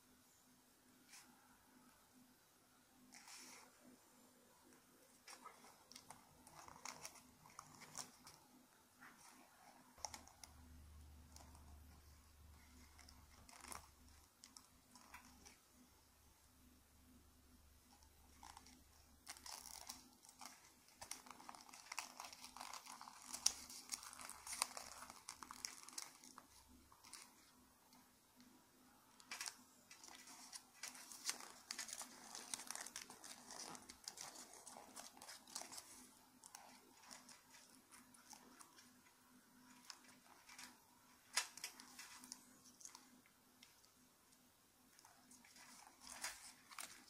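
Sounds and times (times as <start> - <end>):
paper crinkling and rustling: 3.1 - 3.8, 4.7 - 15.6, 17.8 - 44.0, 44.9 - 47.0.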